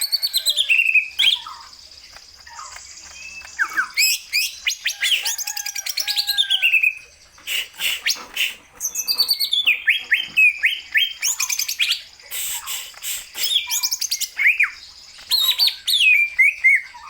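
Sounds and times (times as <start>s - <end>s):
bird song with chirps and trills: 0.0s - 17.0s.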